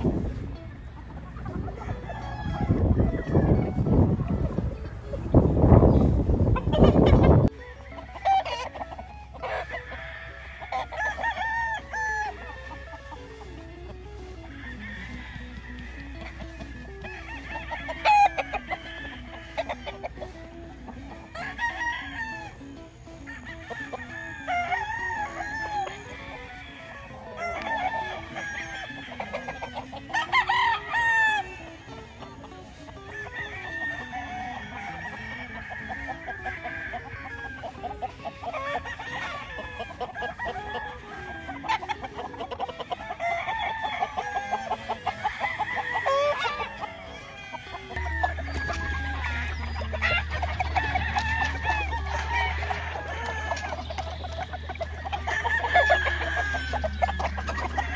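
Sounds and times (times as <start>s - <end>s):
roosters crowing and clucking: 0.0s - 57.9s.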